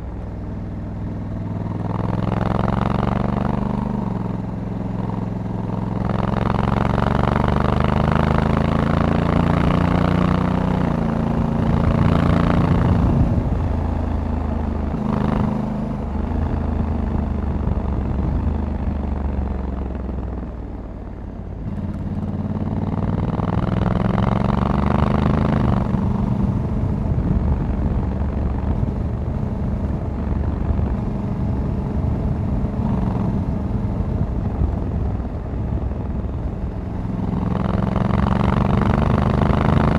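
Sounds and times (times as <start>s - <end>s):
motorcycle engine pulling away: 0.4s - 20.3s, 21.6s - 39.9s.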